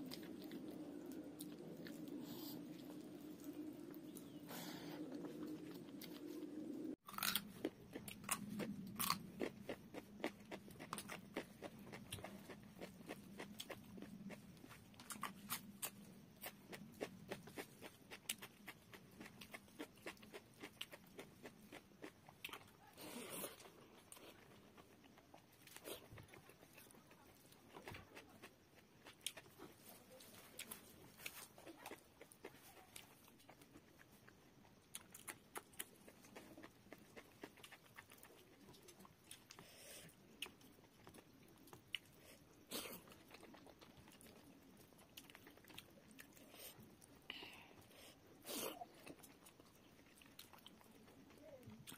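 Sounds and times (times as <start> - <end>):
loud chewing: 0.0 - 47.2.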